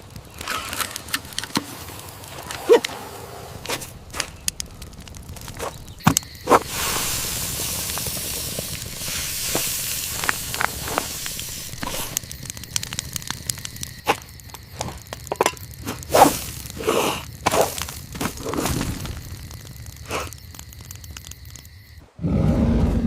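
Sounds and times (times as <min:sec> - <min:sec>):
steady hiss: 0:00.0 - 0:22.2
campfire crackling: 0:00.0 - 0:22.5.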